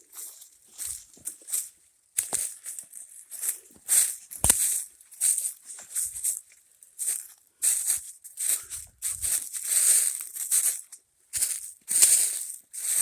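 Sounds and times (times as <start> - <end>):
footsteps crunching through dry leaves: 0.0 - 13.0.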